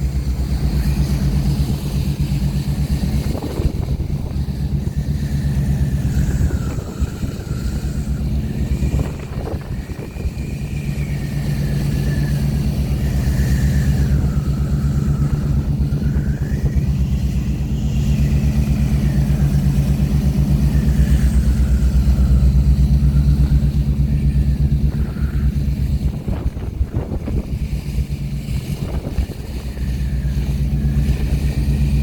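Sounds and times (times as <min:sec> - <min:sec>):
boat engine throbbing: 0:00.0 - 0:32.0
faint wavering whine: 0:00.0 - 0:32.0
water noise: 0:00.0 - 0:32.0
wind: 0:00.0 - 0:32.0.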